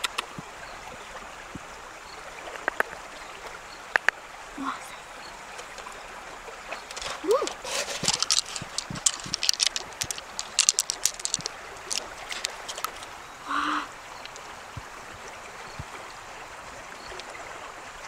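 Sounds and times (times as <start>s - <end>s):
shallow river rushing: 0.0s - 18.0s.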